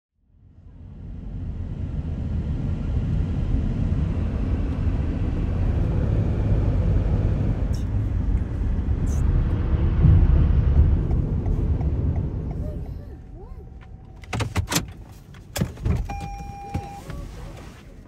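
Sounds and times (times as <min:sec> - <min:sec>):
car road noise in cabin: 0:00.2 - 0:18.0.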